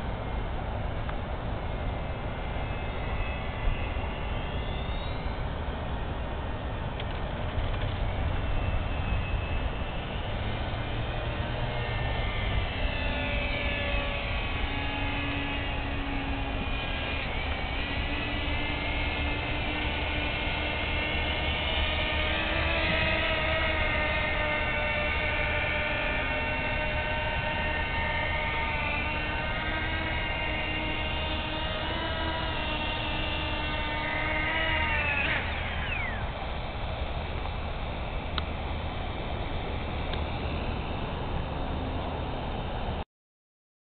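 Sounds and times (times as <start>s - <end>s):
electric motors and propellers whining: 0.0s - 43.0s.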